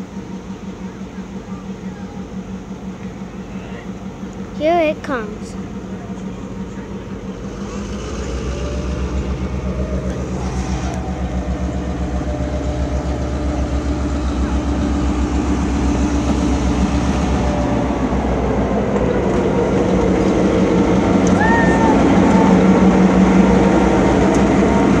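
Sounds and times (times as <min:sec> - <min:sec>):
diesel locomotive engine throbbing: 0:00.0 - 0:25.0.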